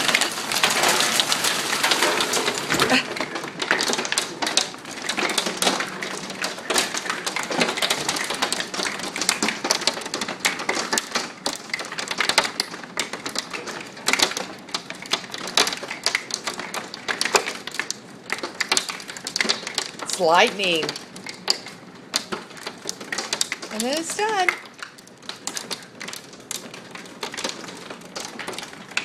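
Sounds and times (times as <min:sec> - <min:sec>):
hailstones pelting hard surfaces: 0:00.0 - 0:29.0.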